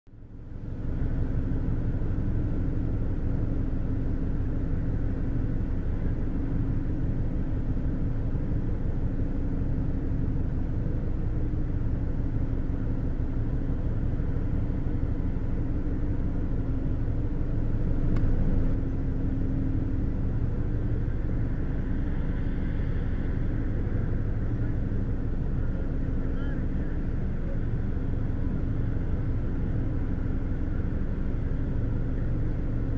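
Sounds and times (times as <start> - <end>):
ship diesel engine drone: 0.1 - 32.9
steady hum of tones: 0.1 - 32.9.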